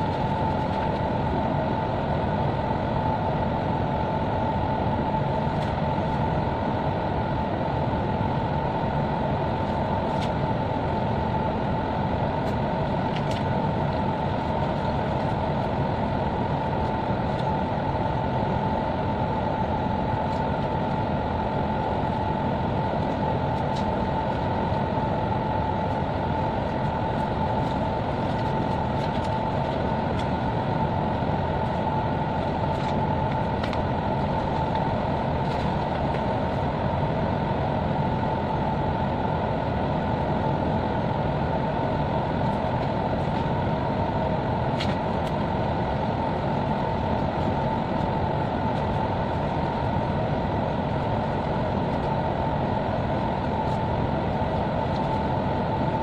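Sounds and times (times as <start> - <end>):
high whine: 0.0 - 56.0
ship machinery hum: 0.0 - 56.0.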